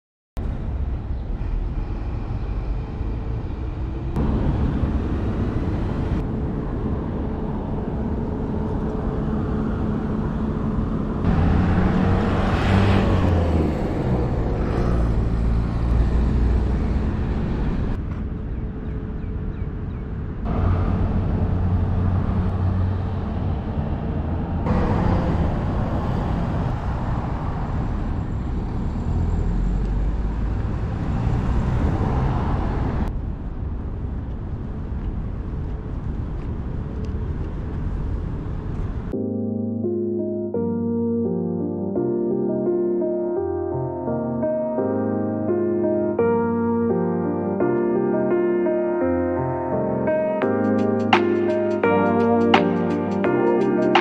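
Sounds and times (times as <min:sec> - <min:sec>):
road traffic: 0:00.4 - 0:41.0, 0:41.7 - 0:54.0.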